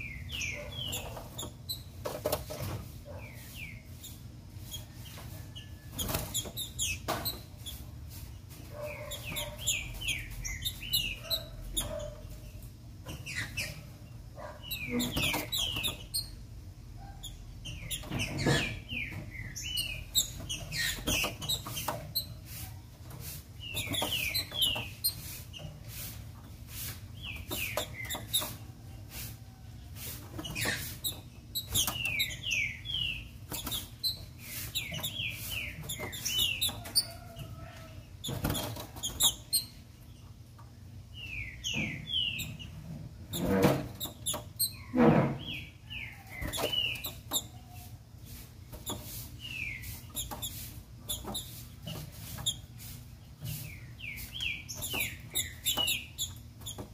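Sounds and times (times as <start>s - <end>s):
bird chirping: 0.0s - 22.6s, 23.2s - 25.7s, 27.1s - 29.0s, 30.3s - 40.4s, 41.1s - 56.9s.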